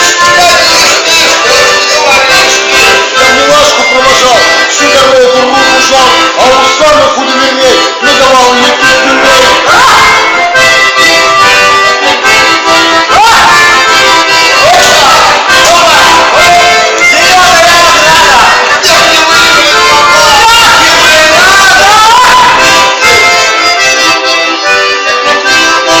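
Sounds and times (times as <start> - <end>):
accordion playing folk tune: 0.0 - 26.0.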